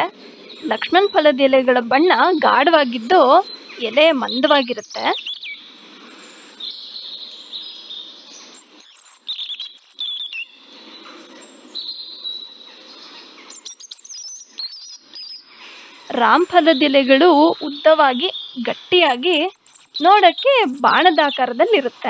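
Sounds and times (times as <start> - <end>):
birds chirping: 0.0 - 22.0
low background noise: 0.0 - 22.0.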